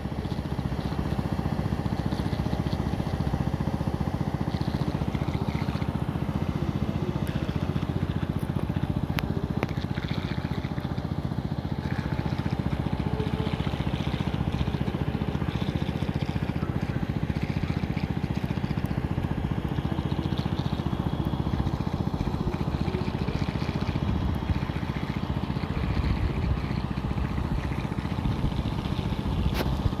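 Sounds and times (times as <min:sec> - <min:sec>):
tractor engine droning: 0:00.0 - 0:30.0.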